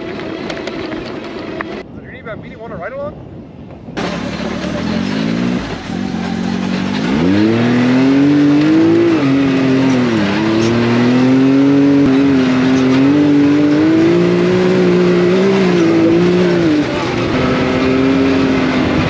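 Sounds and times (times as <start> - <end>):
engine pulling under throttle: 0.0 - 1.8, 4.0 - 19.0.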